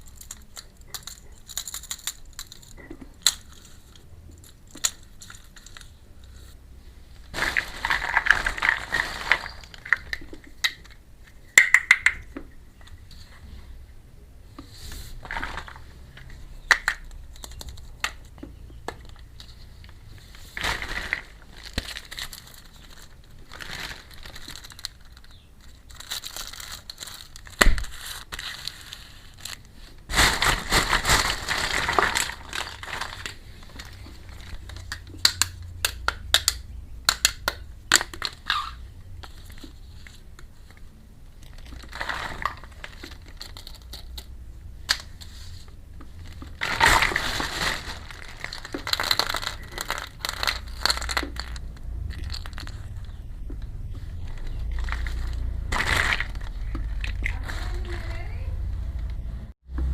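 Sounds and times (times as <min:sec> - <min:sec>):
plastic packaging crinkling: 0:00.0 - 0:06.0, 0:07.2 - 0:12.3, 0:15.1 - 0:59.0.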